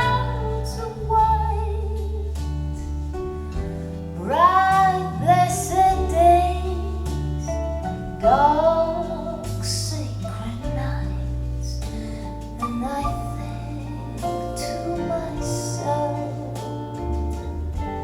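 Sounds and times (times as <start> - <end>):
woman singing: 0.0 - 2.9, 4.2 - 18.0
deep bass notes: 0.0 - 18.0.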